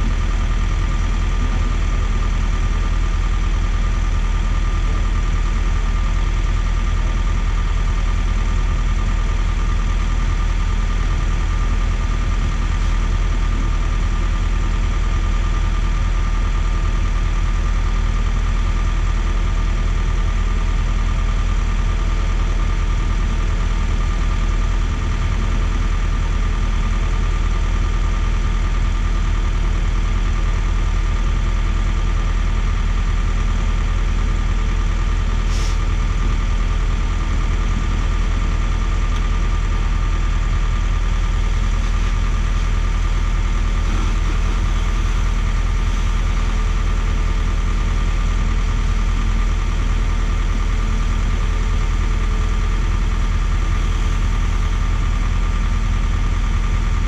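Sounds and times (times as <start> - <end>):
truck engines running: 0.0 - 57.0.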